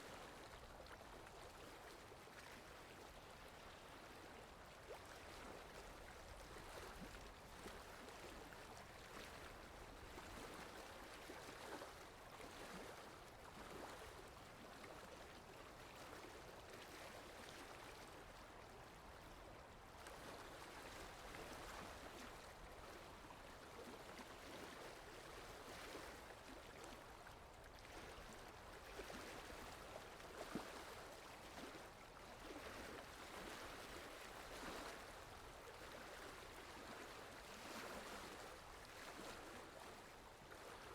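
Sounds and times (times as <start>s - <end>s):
lake water lapping: 4.9s - 40.9s.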